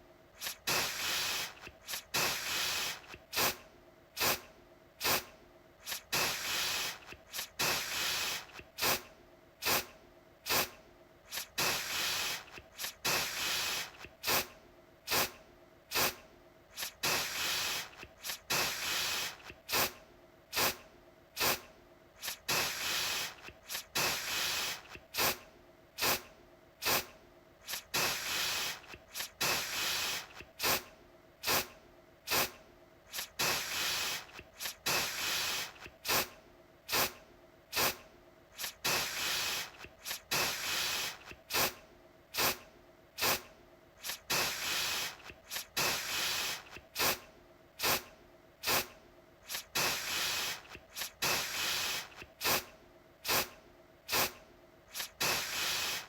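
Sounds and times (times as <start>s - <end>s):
aerosol can spraying: 0.4s - 3.6s, 4.2s - 9.9s, 10.5s - 14.5s, 15.1s - 20.8s, 21.4s - 25.4s, 26.0s - 30.8s, 31.4s - 31.7s, 32.3s - 32.5s, 33.1s - 38.0s, 38.6s - 42.6s, 43.2s - 47.2s, 47.8s - 56.0s.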